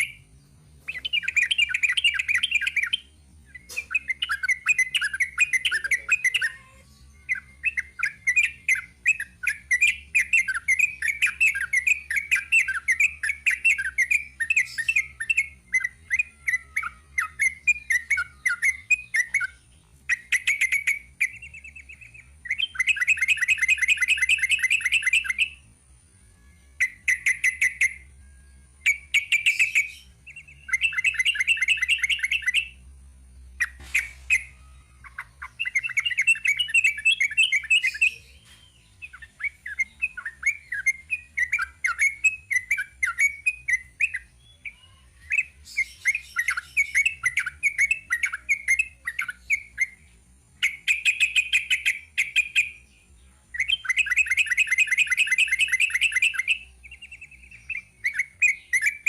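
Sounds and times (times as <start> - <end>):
bulbul singing chattering song: 0.0 - 59.0.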